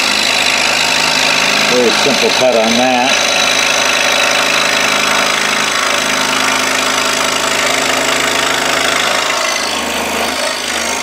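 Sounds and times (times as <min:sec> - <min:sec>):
scroll saw cutting wood: 0:00.0 - 0:11.0.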